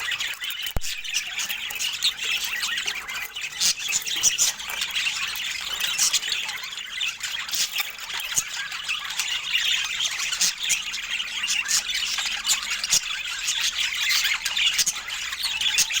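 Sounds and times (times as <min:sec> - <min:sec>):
budgerigars chattering and squawking: 0:00.0 - 0:16.0.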